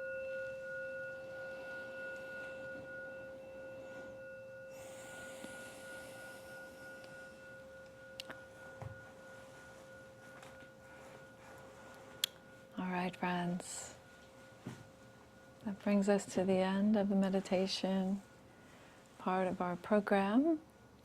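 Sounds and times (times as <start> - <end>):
meditation bell ringing: 0.0 - 21.0.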